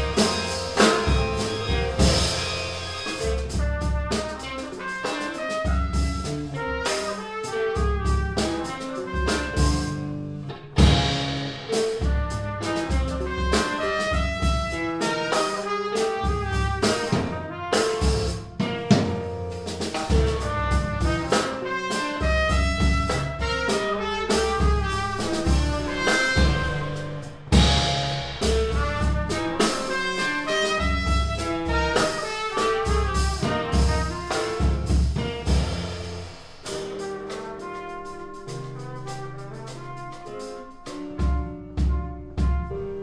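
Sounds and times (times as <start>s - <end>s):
busy drumming: 0.0s - 43.0s
jazz trio playing: 0.0s - 43.0s.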